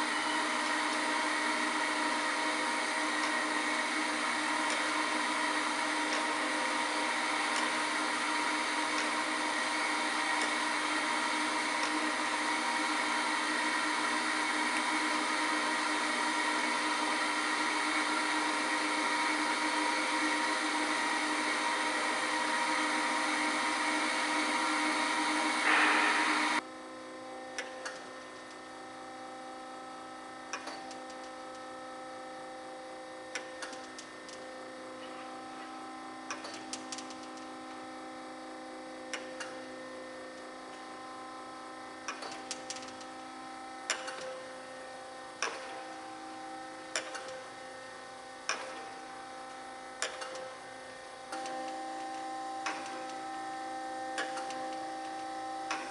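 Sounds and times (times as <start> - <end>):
machine hum: 0.0 - 55.9.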